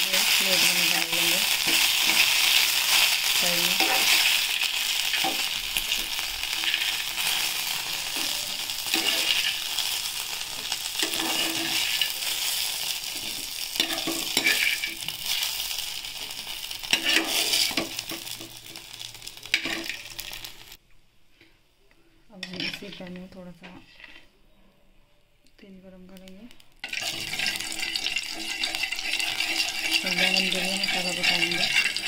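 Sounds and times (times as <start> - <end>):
food sizzling in hot oil: 0.0 - 20.8, 26.8 - 32.0
metal spoon scraping a pan: 0.1 - 15.5, 16.2 - 18.8, 19.5 - 20.6, 22.4 - 24.3, 26.8 - 32.0.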